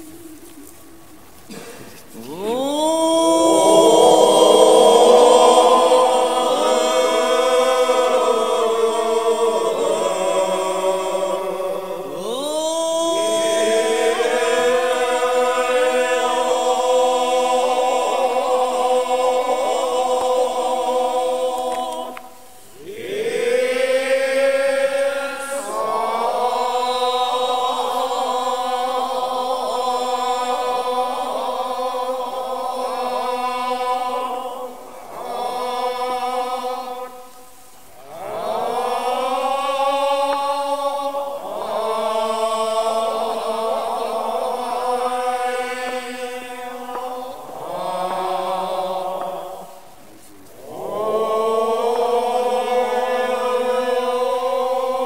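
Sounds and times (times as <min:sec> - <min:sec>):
choir chanting: 0:00.0 - 0:55.0.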